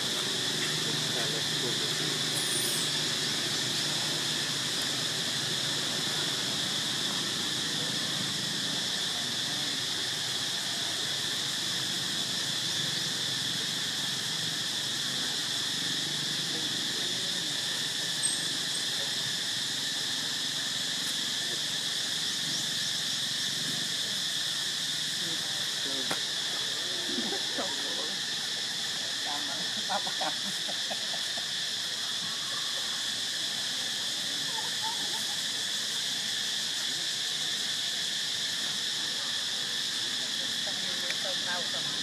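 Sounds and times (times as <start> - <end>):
insect chorus drone: 0.0 - 42.0.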